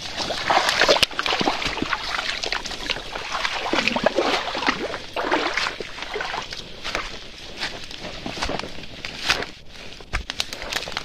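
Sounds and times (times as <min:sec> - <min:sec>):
brushing through leaves: 0:00.0 - 0:11.0
footsteps on muddy trail: 0:00.0 - 0:11.0.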